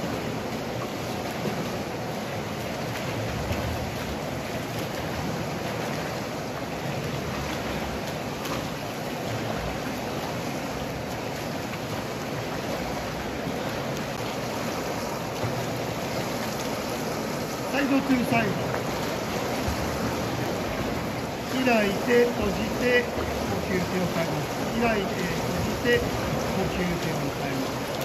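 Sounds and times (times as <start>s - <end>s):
swimmers splashing: 0.0s - 28.0s.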